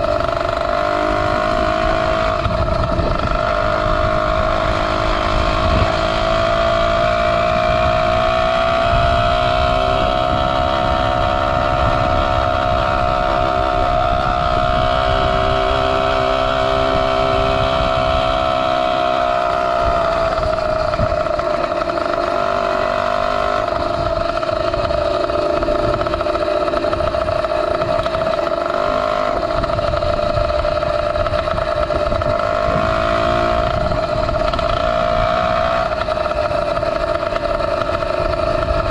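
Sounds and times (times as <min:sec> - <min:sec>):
two-stroke engine at high revs: 0:00.0 - 0:38.9
wind rumble on microphone: 0:00.0 - 0:38.9.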